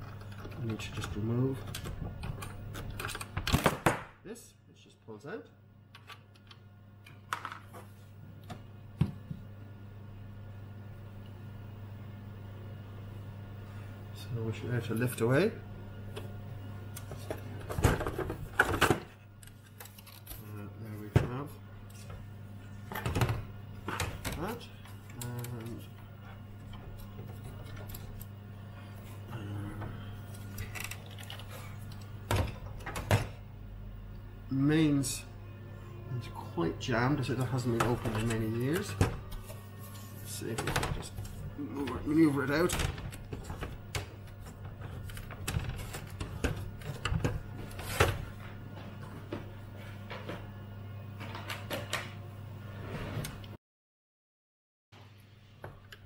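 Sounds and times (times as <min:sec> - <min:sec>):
steady low hum: 0:00.0 - 0:53.4.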